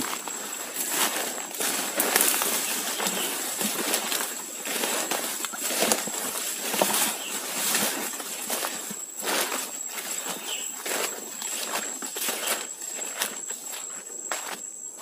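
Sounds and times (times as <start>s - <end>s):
footsteps: 0.0s - 15.0s
rustling of ferns and undergrowth: 0.0s - 15.0s.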